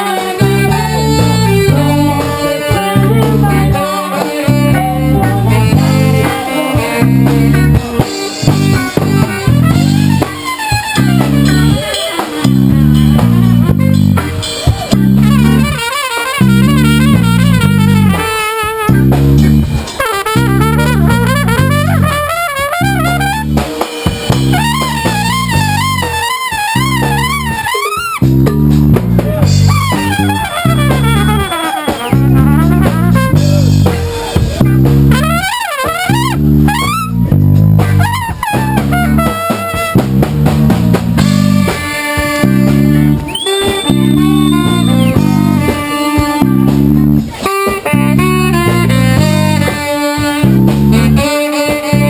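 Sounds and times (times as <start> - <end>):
live band playing: 0.0 - 52.0
trumpet playing lead: 0.0 - 52.0.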